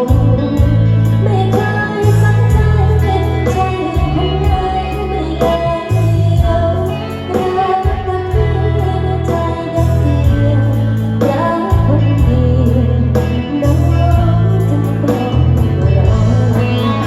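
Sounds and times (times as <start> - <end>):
song with heavy bass over speakers: 0.0 - 17.0.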